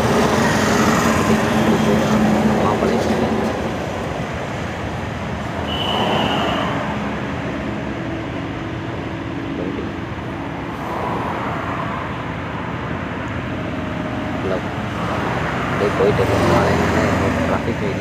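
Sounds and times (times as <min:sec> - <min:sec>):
lorry engine and road noise: 0:00.0 - 0:18.0.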